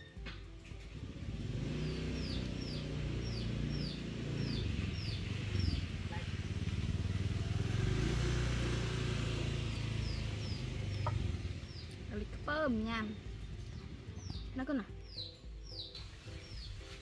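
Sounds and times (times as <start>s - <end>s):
bird chirping: 0.0s - 17.0s
engine droning: 0.0s - 17.0s.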